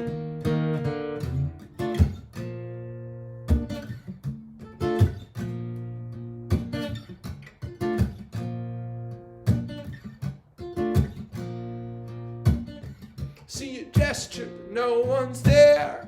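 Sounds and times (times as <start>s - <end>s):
acoustic guitar strummed chords: 0.0s - 16.0s.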